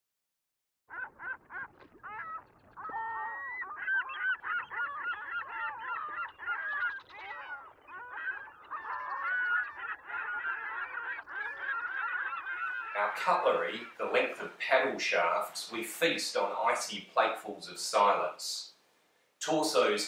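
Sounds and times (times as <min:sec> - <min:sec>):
penguin colony calling: 0:00.9 - 0:18.6.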